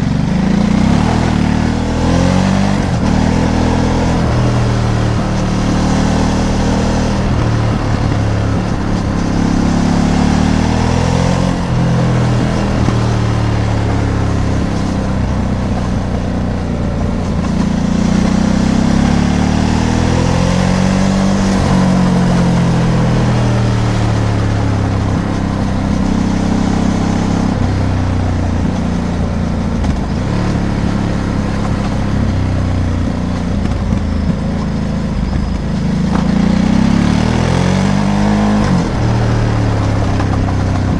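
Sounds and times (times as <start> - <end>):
motorcycle engine revving: 0.0 - 40.9
road noise: 0.0 - 40.9
wind noise: 0.6 - 40.9.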